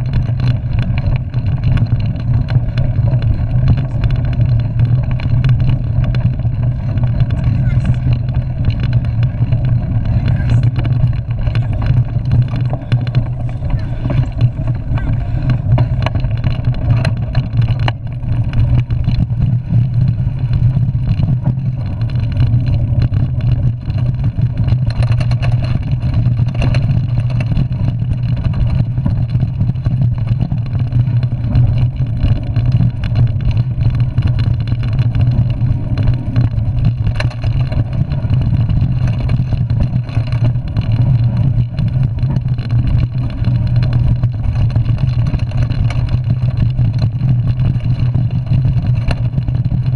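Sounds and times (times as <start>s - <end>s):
bike rattles and knocks: 0.0s - 49.9s
bike rumbling on dirt trail: 0.0s - 49.9s.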